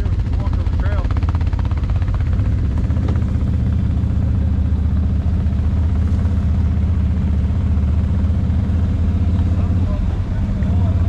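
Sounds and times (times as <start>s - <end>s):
atv engine running steadily: 0.0s - 11.0s.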